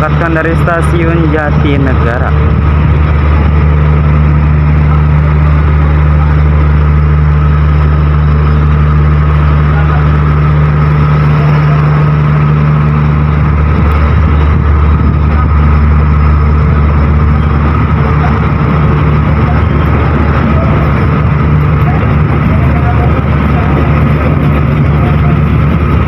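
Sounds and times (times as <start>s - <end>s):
diesel locomotive engine droning: 0.0s - 26.0s.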